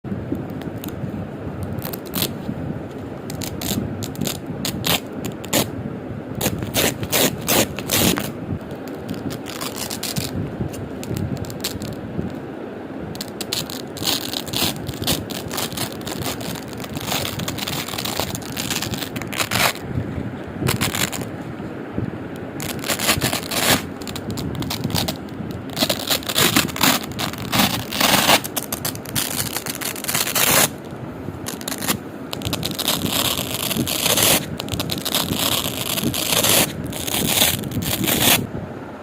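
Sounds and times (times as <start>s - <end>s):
velcro strips peeling apart: 1.6s - 2.4s, 3.3s - 5.7s, 6.4s - 12.4s, 13.2s - 19.8s, 20.7s - 21.3s, 22.6s - 38.4s.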